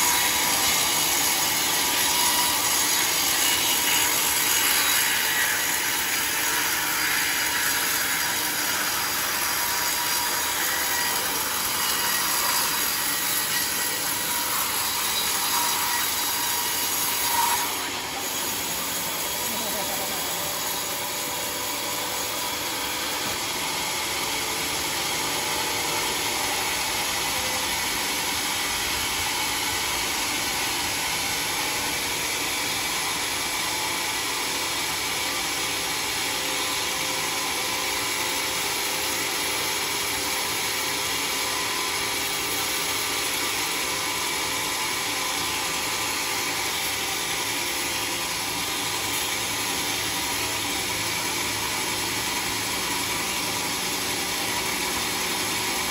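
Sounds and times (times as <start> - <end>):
band sawmill sawing through log: 0.0 - 55.9.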